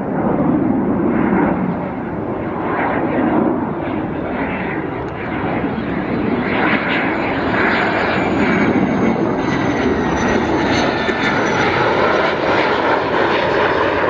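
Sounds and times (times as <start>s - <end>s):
high jet whine: 0.0s - 14.0s
jet rumble and hiss: 0.0s - 14.0s.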